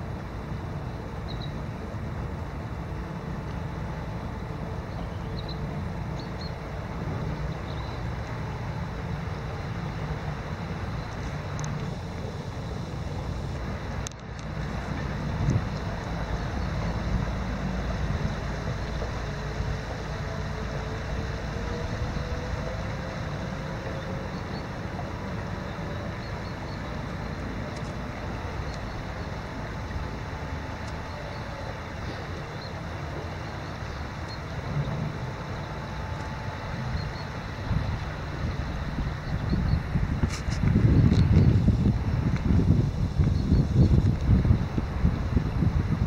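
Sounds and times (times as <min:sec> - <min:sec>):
river running over gravel: 0:00.0 - 0:46.0
wind rumbling on microphone: 0:00.0 - 0:46.0.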